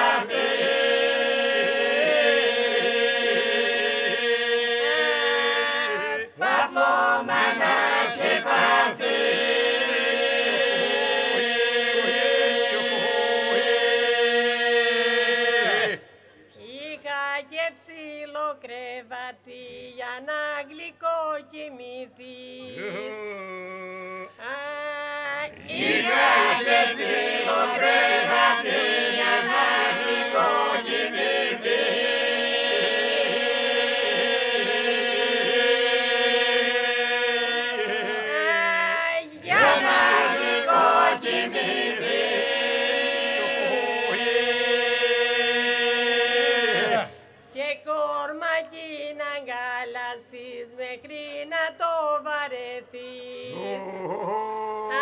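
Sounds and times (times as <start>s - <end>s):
group singing sustained drone: 0.0s - 16.8s, 22.6s - 24.6s, 25.5s - 52.1s, 52.9s - 55.0s.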